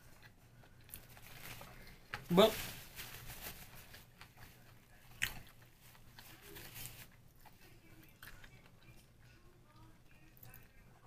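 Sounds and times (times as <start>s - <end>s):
faint chewing with mouth clicks: 0.0s - 2.3s, 3.5s - 11.0s.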